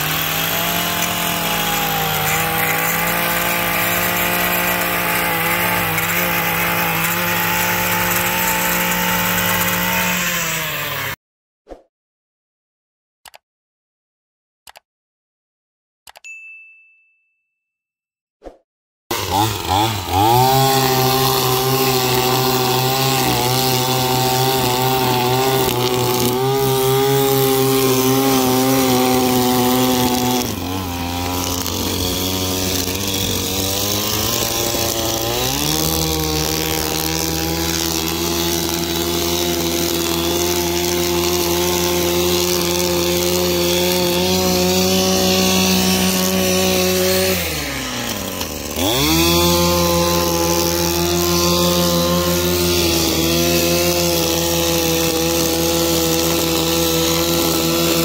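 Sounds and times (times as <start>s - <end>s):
string trimmer engine revving: 0.0s - 11.2s, 19.1s - 58.0s.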